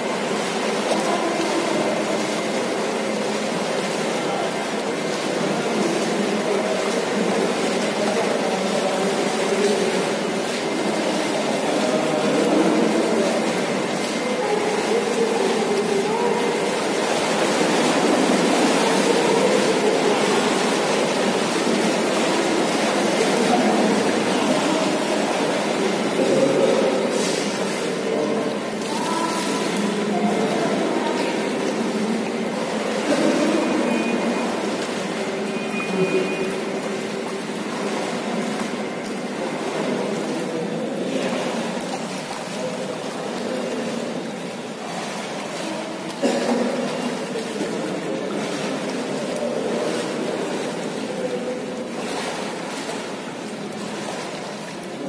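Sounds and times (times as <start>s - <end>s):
water splashing in pool hall: 0.0s - 55.0s.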